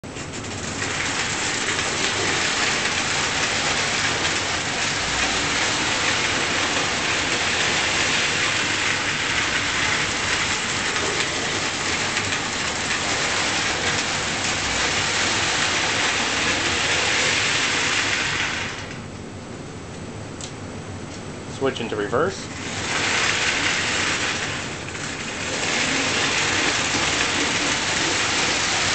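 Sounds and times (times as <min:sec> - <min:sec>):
toy train wheels rolling on rails: 0:00.2 - 0:19.0, 0:22.5 - 0:28.9.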